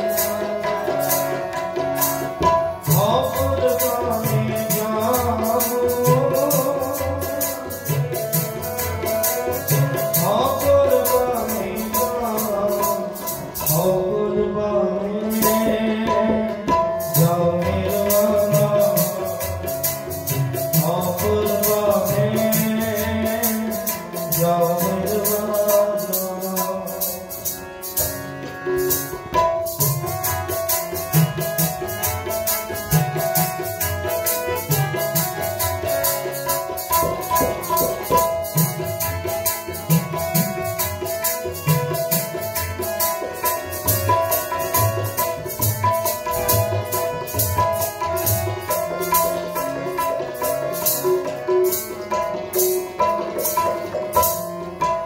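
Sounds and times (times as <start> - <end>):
harmonium holding notes: 0.0 - 55.0
tabla fast rhythm: 0.0 - 55.0.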